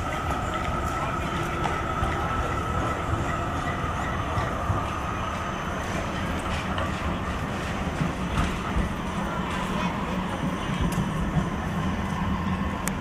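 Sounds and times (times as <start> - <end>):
electric tram rumbling and whining: 0.0 - 13.0.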